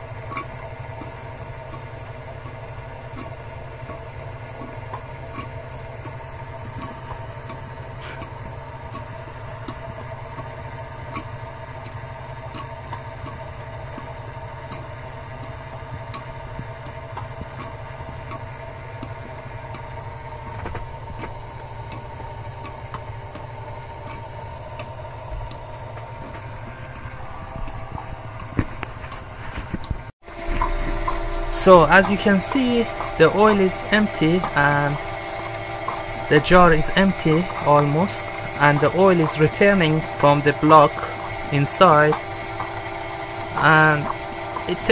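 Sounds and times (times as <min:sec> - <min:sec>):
oil pump mechanical hum: 0:00.0 - 0:44.9.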